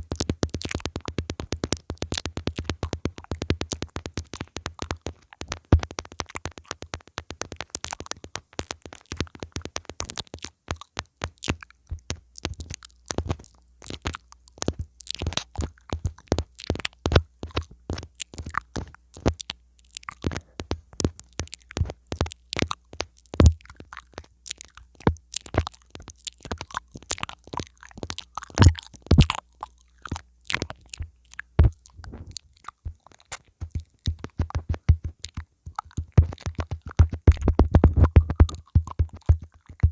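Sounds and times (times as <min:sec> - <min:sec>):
mouth nibbling a microphone: 0:00.0 - 0:39.9.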